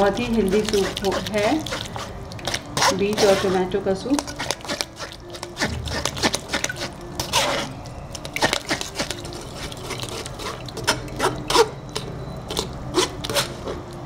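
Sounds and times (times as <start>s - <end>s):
spoon scraping pulp on mesh strainer: 0.1s - 13.9s.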